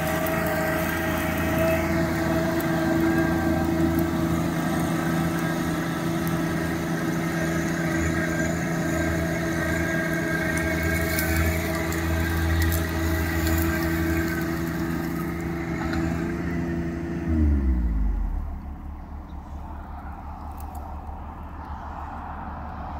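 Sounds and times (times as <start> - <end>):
diesel tractor engine running: 0.0 - 22.9.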